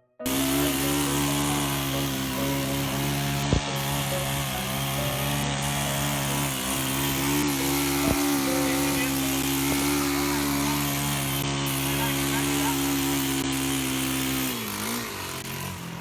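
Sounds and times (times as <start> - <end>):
motor humming with hissing rush: 0.2 - 16.0.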